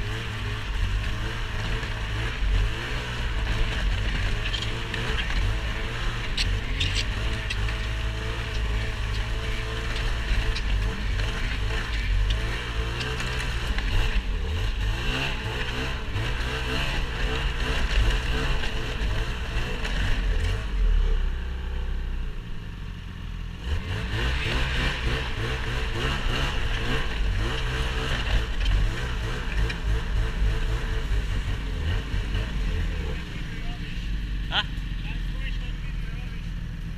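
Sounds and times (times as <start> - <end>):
engine running under load: 0.0 - 36.9.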